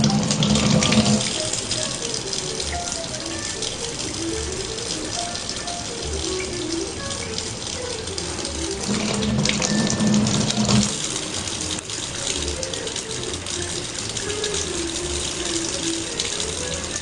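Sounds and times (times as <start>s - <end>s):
water running from a tap: 0.0s - 17.0s.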